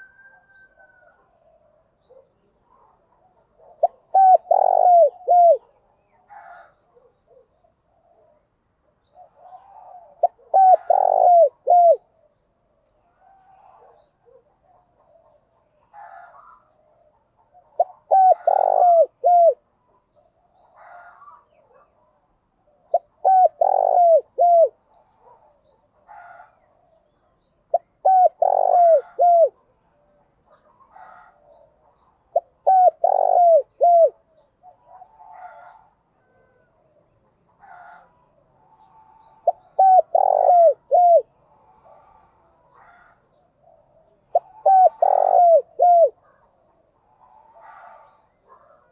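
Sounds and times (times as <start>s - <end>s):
doves cooing: 0.0s - 8.4s, 9.2s - 12.1s, 15.2s - 19.7s, 22.8s - 27.0s, 27.7s - 36.8s, 37.6s - 48.9s.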